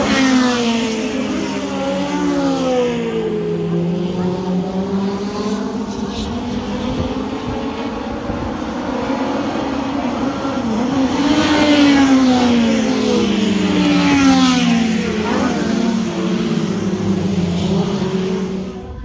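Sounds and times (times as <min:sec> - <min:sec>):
race cars passing: 0:00.0 - 0:19.0.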